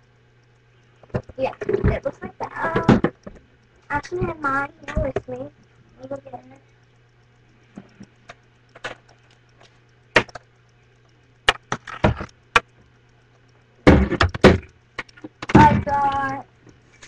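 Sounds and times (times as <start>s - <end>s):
faint low hum: 0.0s - 17.0s
sharp knocks and clicks: 1.0s - 5.4s, 7.2s - 16.8s.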